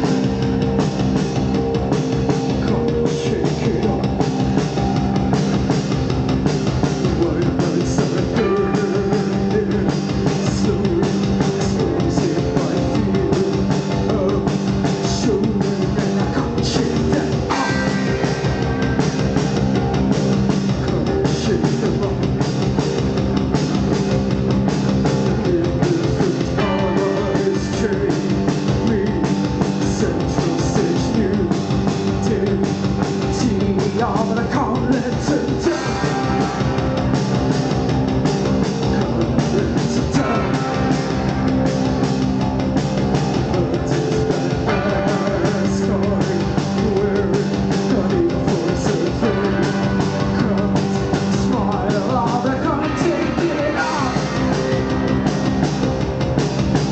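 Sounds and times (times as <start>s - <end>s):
live rock band playing: 0.0s - 56.9s
person singing: 2.3s - 5.3s, 6.8s - 23.1s, 24.9s - 56.0s.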